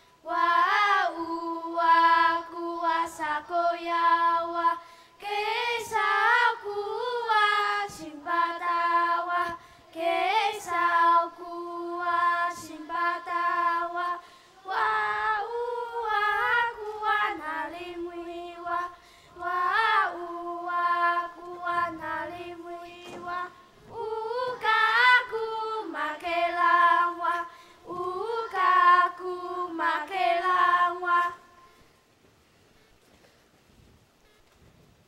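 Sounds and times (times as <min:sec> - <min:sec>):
child singing: 0:00.2 - 0:31.5.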